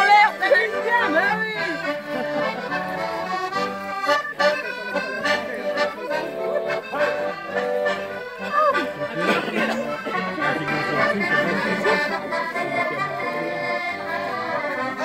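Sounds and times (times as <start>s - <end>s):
accordion playing dance tune: 0.0s - 15.0s.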